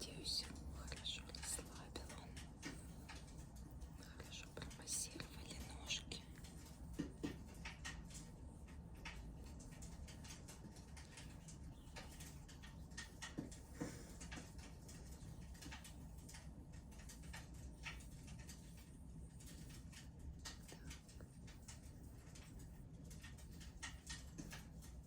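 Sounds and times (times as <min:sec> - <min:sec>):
low steady hum: 0:00.0 - 0:25.0
wood fire crackling: 0:00.0 - 0:25.0.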